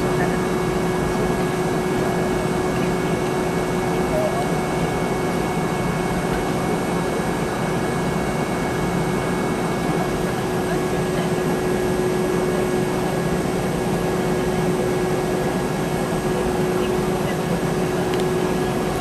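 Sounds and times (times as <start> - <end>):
airliner cabin hum: 0.0 - 19.0
steady high whine: 0.0 - 19.0.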